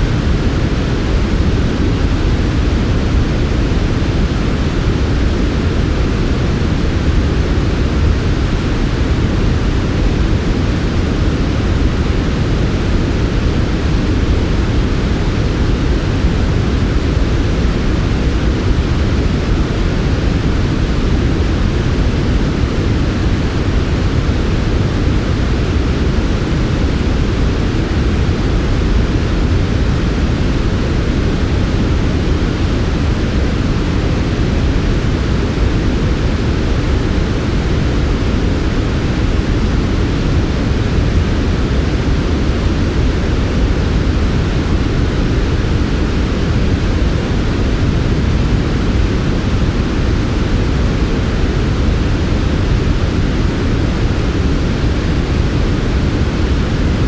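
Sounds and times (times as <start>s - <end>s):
steady white noise: 0.0s - 57.0s.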